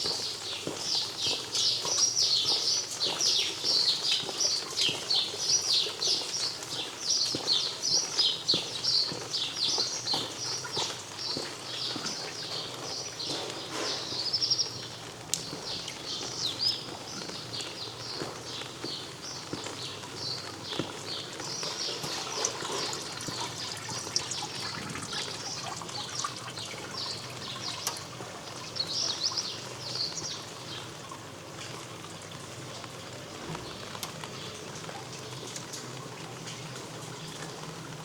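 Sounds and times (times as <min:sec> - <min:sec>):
many small birds chirping: 0:00.0 - 0:31.0.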